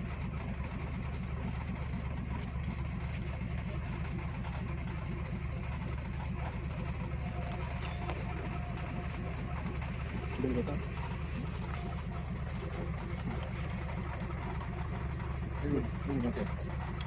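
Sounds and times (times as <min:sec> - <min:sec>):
large engine idling: 0:00.0 - 0:17.0.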